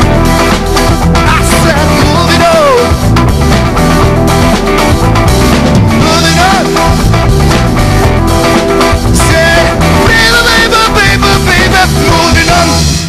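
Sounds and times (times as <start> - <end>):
drum and cymbal hits: 0.0 - 13.0
live rock band playing: 0.0 - 13.0.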